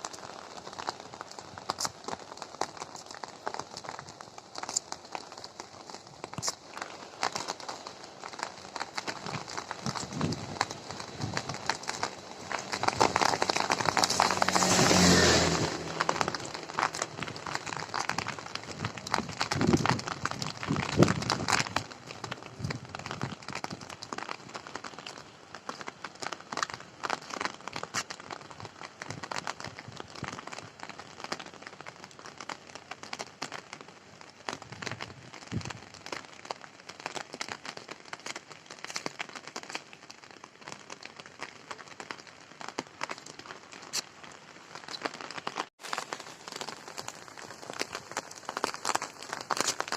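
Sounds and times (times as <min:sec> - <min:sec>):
rain on a hard surface: 0:00.0 - 0:49.9.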